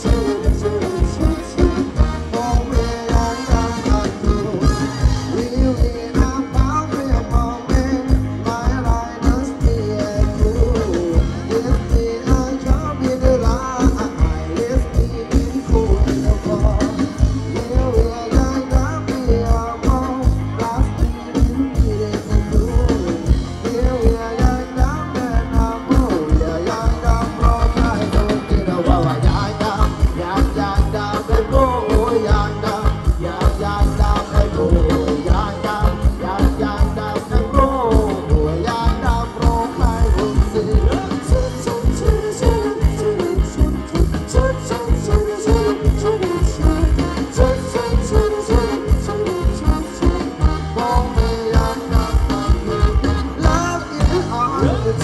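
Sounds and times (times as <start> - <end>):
fast drum beat: 0.0 - 55.0
live band through pa: 0.0 - 55.0
person singing: 0.0 - 55.0.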